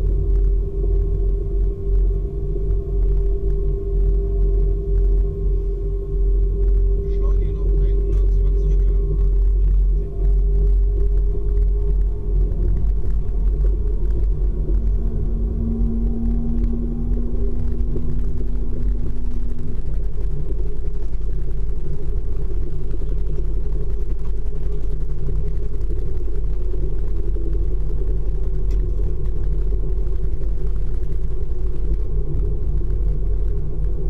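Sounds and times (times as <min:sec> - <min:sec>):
humming tone: 0:00.0 - 0:34.0
train low rumble: 0:00.0 - 0:34.0.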